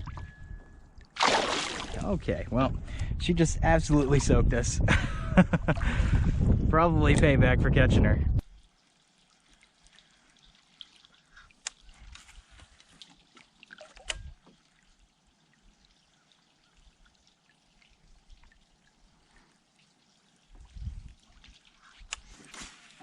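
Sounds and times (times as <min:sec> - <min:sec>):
faint water dripping and trickling: 0:00.0 - 0:06.1, 0:08.4 - 0:23.0.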